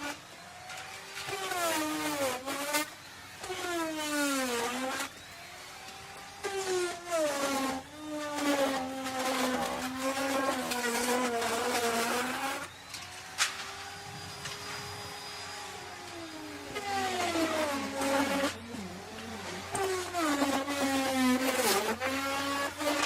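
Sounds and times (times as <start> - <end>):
wood router cutting wood: 0.0 - 23.0.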